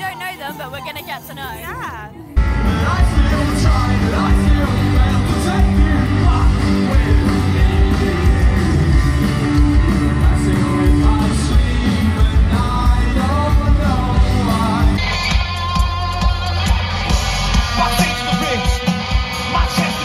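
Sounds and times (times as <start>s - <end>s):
live band with lead singer: 0.0s - 20.0s.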